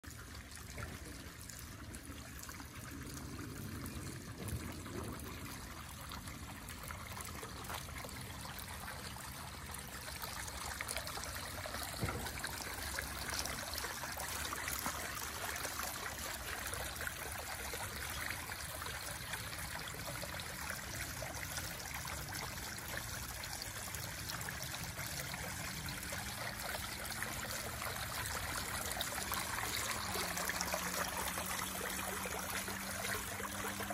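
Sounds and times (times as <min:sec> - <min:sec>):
water trickling and splashing: 0:00.0 - 0:33.9.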